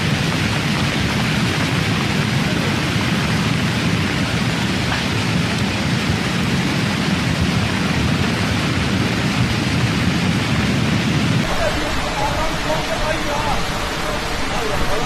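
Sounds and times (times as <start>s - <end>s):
water rushing with deep rumble: 0.0s - 15.0s.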